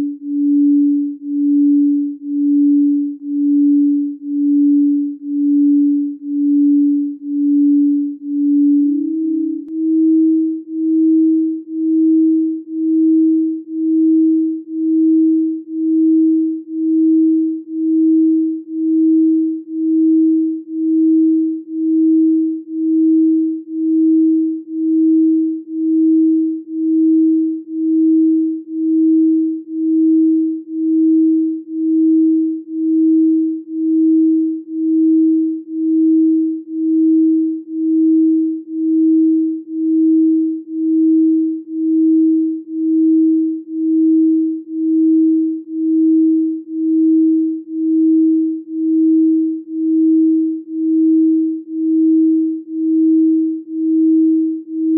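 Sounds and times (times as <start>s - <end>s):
electronic sine tone: 0.0s - 54.9s.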